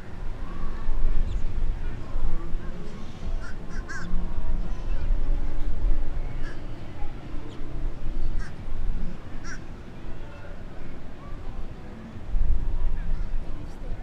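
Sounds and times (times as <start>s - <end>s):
faint voices: 0.0s - 14.0s.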